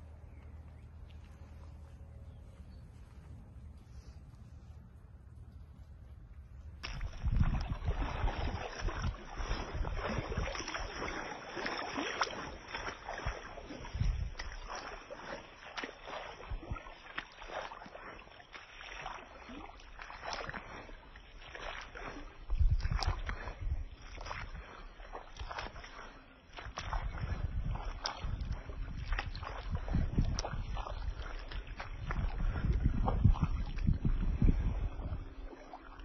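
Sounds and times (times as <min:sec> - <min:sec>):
floodwater splashing and sloshing: 0:00.0 - 0:36.0.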